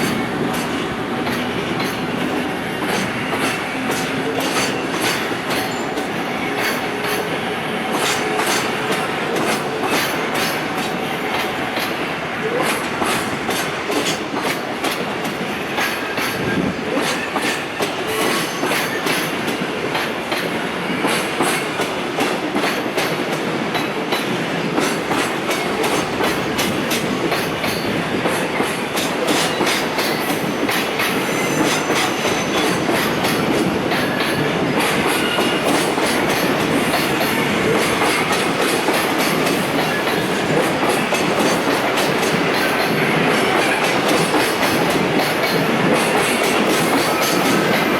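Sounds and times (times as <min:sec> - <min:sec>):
train wheels clacking on rails: 0:00.0 - 0:47.9.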